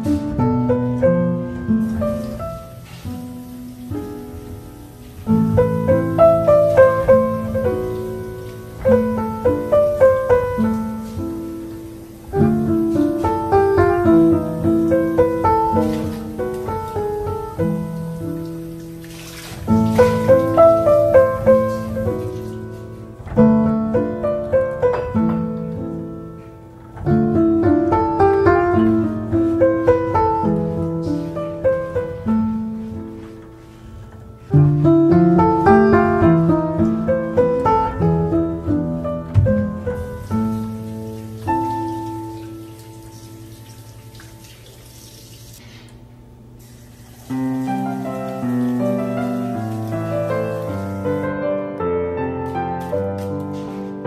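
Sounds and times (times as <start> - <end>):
slow piano music: 0.0 - 54.0.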